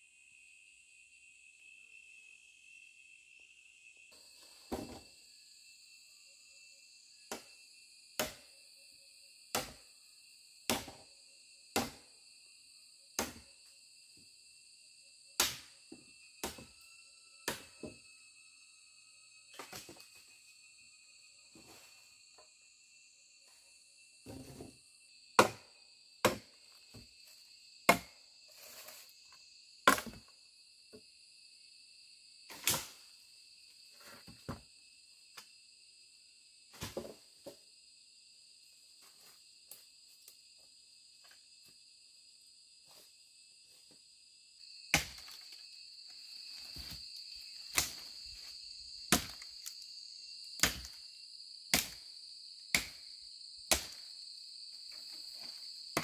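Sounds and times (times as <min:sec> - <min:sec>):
insect chorus chirring: 0:00.0 - 0:56.0.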